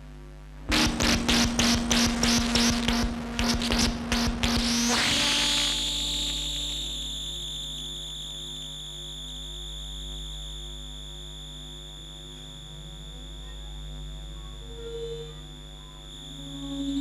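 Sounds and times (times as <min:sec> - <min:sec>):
low steady drone: 0:00.0 - 0:17.0.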